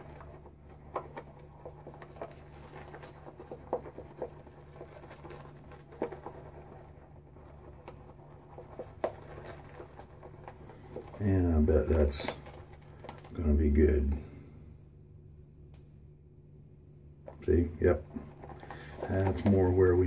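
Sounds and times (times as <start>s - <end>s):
brush squishing shaving cream: 0.0s - 16.0s, 17.2s - 20.0s
steady low hum: 0.0s - 20.0s.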